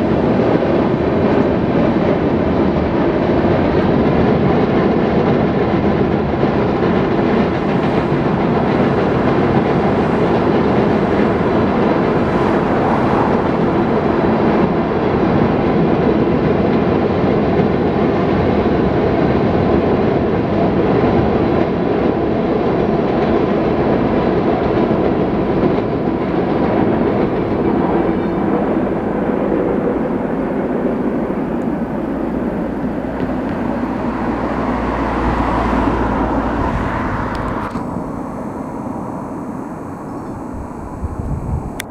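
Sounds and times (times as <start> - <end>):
wheels clickety-clack: 0.0 - 37.9
freight train rumbling: 0.0 - 41.9.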